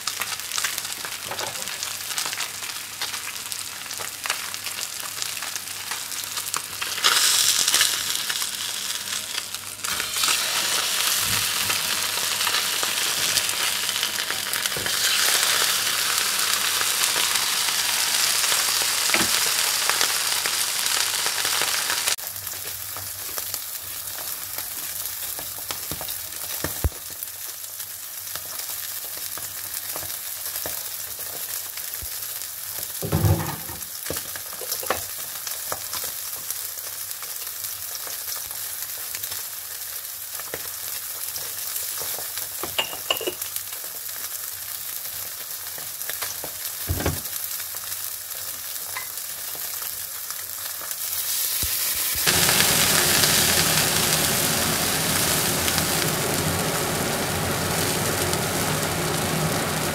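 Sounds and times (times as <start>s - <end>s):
fish sizzling in frying pan: 0.0s - 59.9s.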